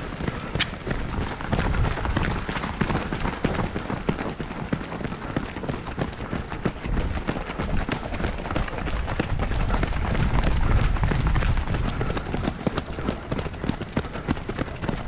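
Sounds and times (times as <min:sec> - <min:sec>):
running footsteps on asphalt: 0:00.0 - 0:15.0
wind buffeting microphone: 0:00.0 - 0:15.0.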